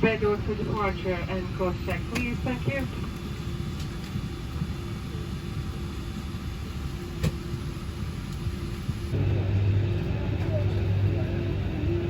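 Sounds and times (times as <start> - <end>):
air-conditioning rumble in cabin: 0.0 - 12.0
constant hum: 0.0 - 12.0.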